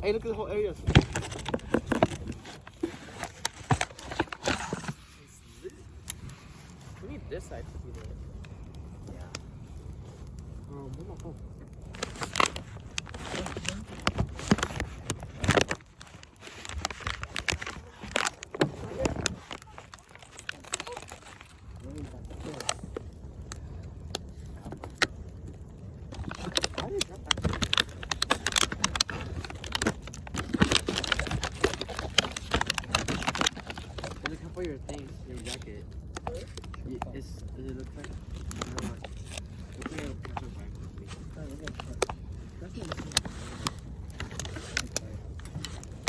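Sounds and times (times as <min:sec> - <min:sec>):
bonfire crackling and popping: 0:00.0 - 0:46.0
fire low rumble: 0:00.0 - 0:46.0.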